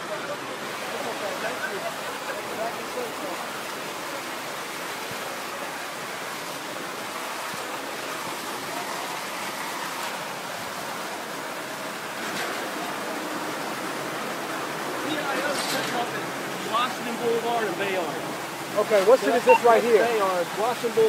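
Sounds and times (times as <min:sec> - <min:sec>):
fire hoses spraying water: 0:00.0 - 0:21.0.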